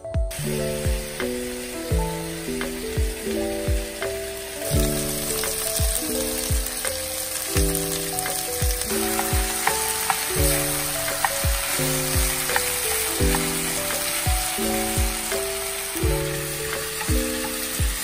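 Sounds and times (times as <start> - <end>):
music with held chords and beat: 0.0 - 18.0
vegetables sizzling in a frying pan: 0.3 - 18.0.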